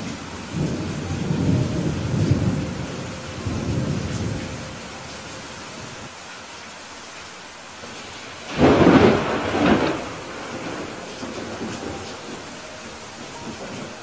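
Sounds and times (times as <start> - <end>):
rolling thunder: 0.0 - 6.1, 8.4 - 14.0
heavy rain: 0.0 - 14.0.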